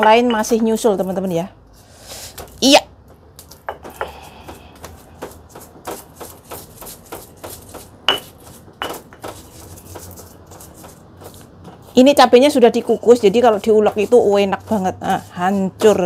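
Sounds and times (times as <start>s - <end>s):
pestle knocking and grinding in mortar: 0.0s - 1.4s, 2.3s - 16.0s.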